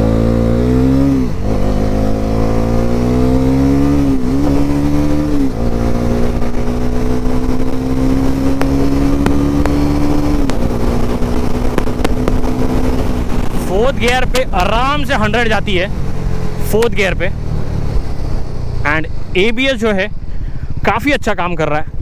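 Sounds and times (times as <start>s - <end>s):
motorcycle engine accelerating: 0.0s - 19.3s.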